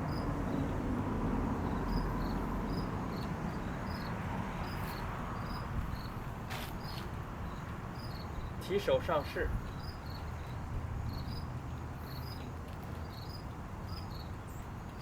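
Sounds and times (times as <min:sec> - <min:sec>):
insect chirping: 0:00.0 - 0:00.8, 0:01.6 - 0:08.7, 0:09.6 - 0:15.0.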